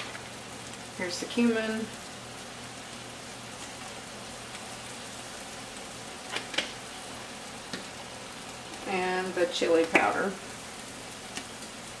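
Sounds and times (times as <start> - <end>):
food sizzling in pans: 0.0 - 12.0.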